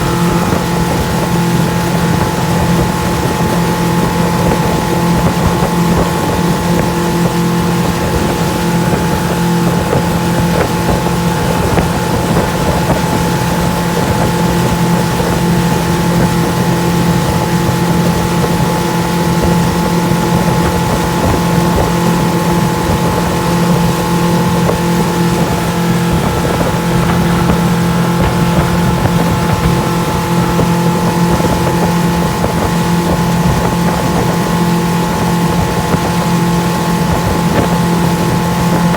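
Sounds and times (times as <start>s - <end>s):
motorboat engine humming: 0.0s - 38.9s
rush of wind and water: 0.0s - 38.9s.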